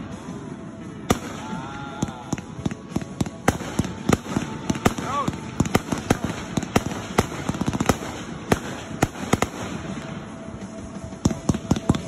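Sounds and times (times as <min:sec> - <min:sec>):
fireworks crackling pops: 0:01.0 - 0:12.0.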